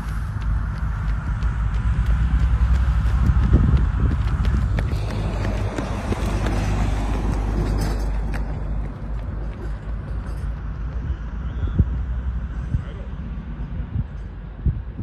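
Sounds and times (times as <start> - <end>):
low roadside rumble: 0.0 - 15.0.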